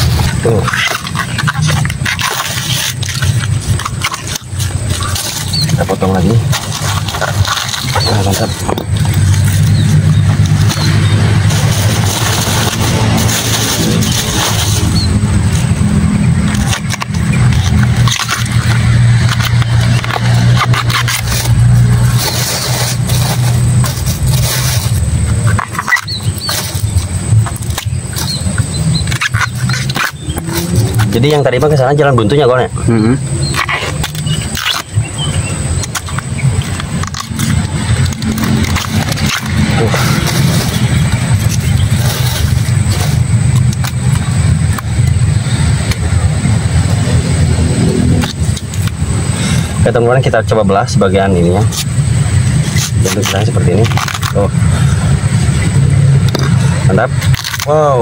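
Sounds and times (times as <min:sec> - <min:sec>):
motor engine running: 0:00.0 - 0:50.0
crackling of leaves torn by hand: 0:00.0 - 0:58.0.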